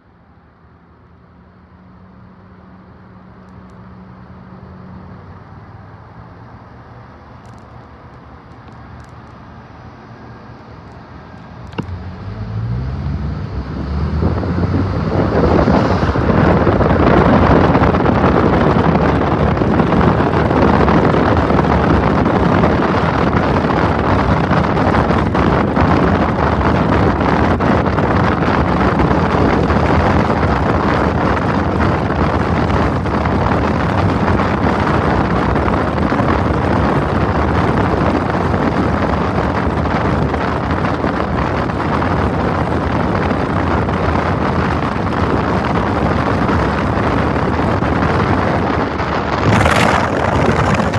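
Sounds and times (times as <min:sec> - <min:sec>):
vehicle road noise: 0:00.0 - 0:50.9
wind rushing over microphone: 0:02.1 - 0:50.9.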